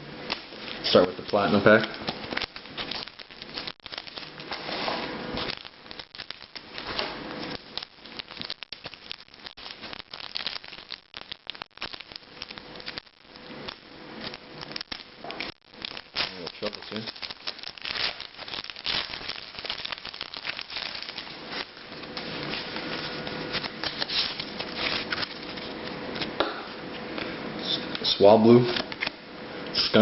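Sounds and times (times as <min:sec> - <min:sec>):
foil wrapper crinkling: 0:00.3 - 0:26.3.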